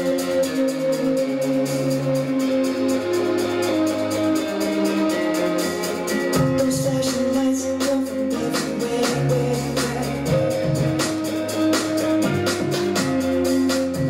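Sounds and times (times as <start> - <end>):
pop dance music: 0.0 - 14.0.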